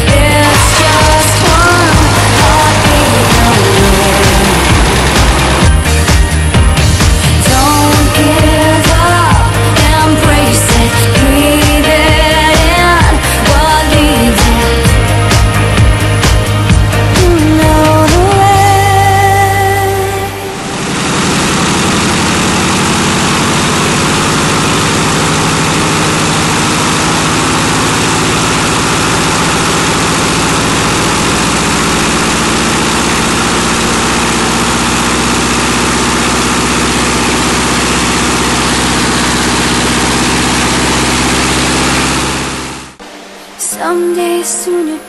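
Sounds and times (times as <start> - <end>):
aircraft engine and propeller running: 0.0 - 43.6.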